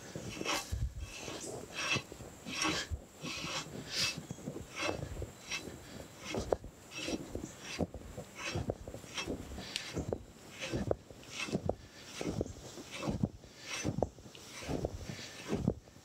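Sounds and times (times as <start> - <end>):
metal rod scraping rasps: 0.0 - 15.8.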